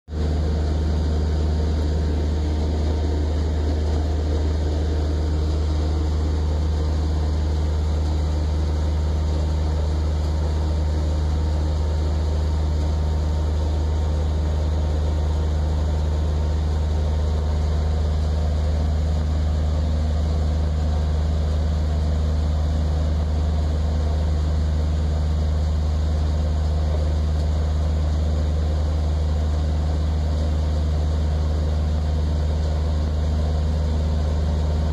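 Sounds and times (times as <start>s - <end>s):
boat engine humming: 0.1s - 34.9s.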